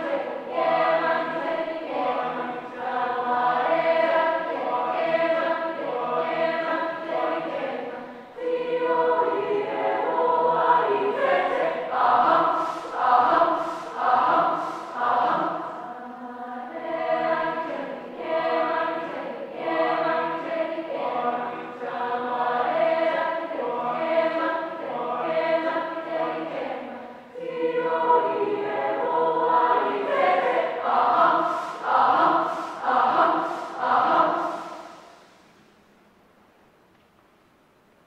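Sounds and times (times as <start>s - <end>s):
mixed choir singing a cappella: 0.0s - 35.6s.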